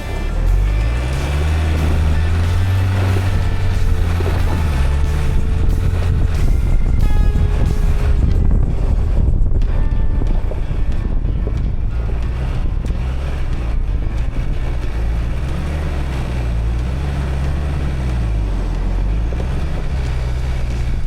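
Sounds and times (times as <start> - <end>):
vehicle engine running under load: 0.0 - 21.0
wind rumbling on microphone: 0.2 - 21.0.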